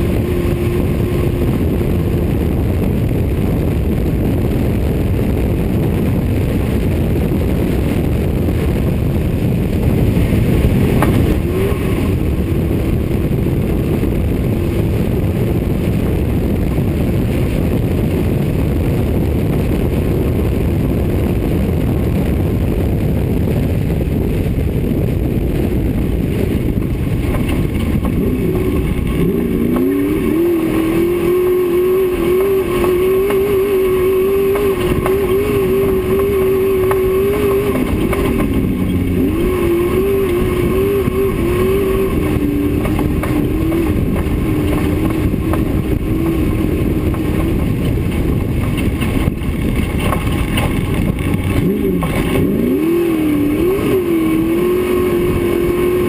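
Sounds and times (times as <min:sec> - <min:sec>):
race car engine running hard: 0:00.0 - 0:56.0
tyre and suspension rumble: 0:00.0 - 0:56.0
wind rushing: 0:00.0 - 0:56.0.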